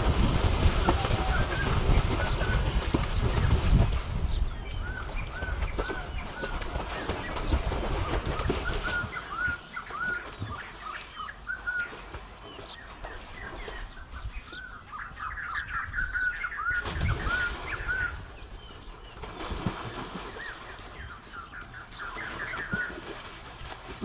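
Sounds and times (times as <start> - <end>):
water splashing from swimmers: 0.0 - 14.8, 16.3 - 24.0
small birds chirping: 0.8 - 24.0.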